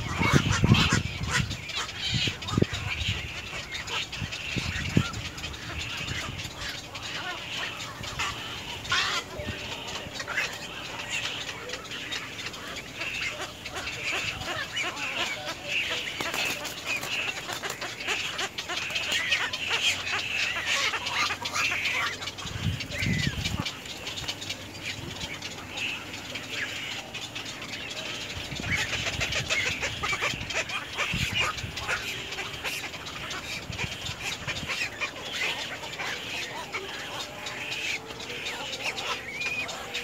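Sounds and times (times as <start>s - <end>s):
birds chattering: 0.0s - 40.0s.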